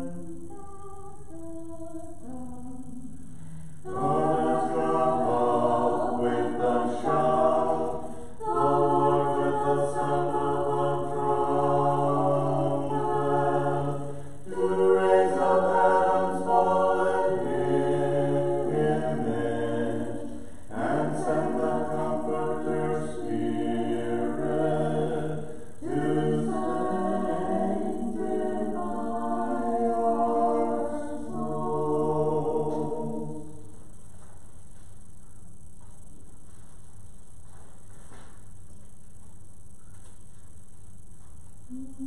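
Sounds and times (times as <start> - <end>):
unaccompanied choir chanting: 0.0 - 33.7.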